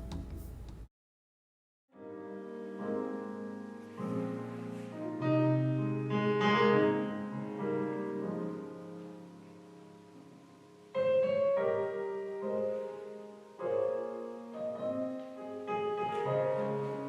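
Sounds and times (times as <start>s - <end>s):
piano chords: 2.0s - 17.0s.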